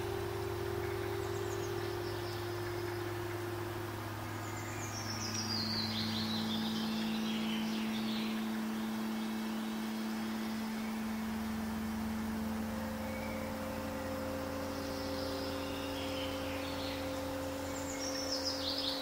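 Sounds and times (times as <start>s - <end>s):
ambient music drone: 0.0s - 19.0s.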